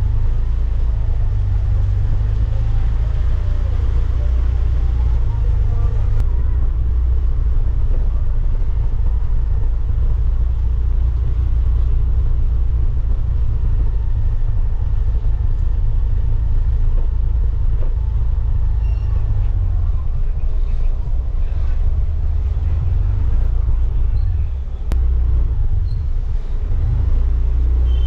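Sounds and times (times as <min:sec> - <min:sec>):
motorcycle engine rumble: 0:00.0 - 0:28.0.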